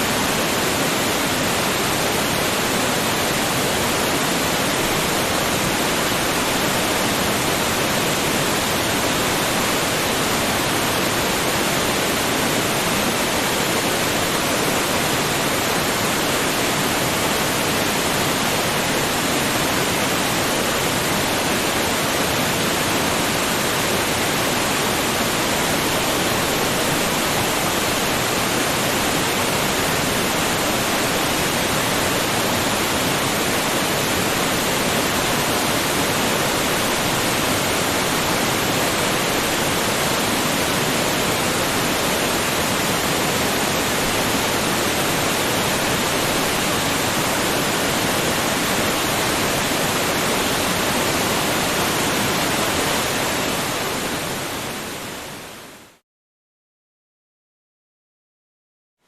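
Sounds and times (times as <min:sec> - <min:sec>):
waterfall rushing: 0:00.0 - 0:55.7.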